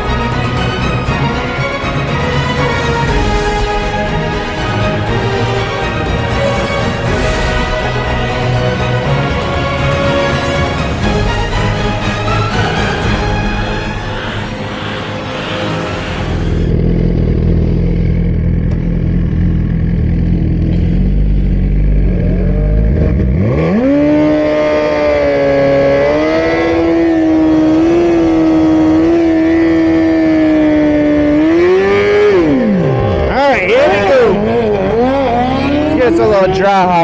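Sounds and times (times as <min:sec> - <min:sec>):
engine revving: 0:00.0 - 0:37.0.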